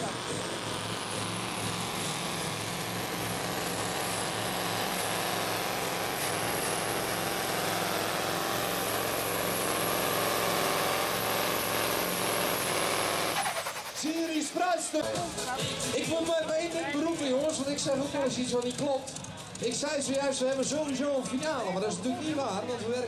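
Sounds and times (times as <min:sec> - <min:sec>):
diesel truck engine at full power: 0:00.0 - 0:19.5.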